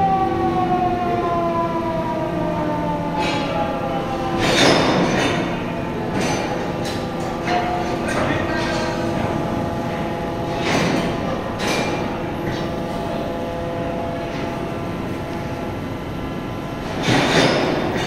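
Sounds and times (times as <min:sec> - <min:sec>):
industrial machinery hum: 0:00.0 - 0:18.0.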